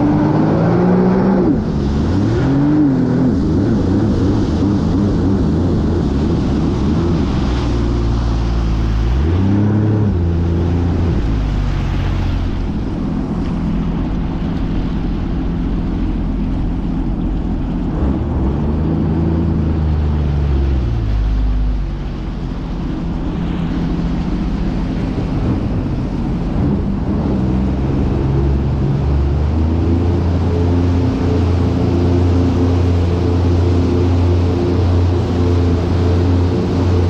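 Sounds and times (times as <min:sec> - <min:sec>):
jet ski engine running: 0:00.0 - 0:37.0.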